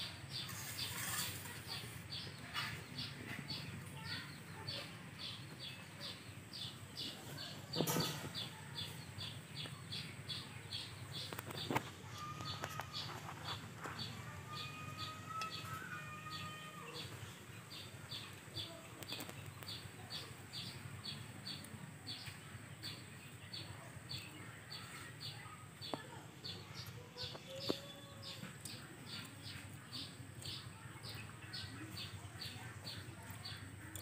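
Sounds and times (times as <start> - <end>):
small bird chirping: 0.0 - 34.0.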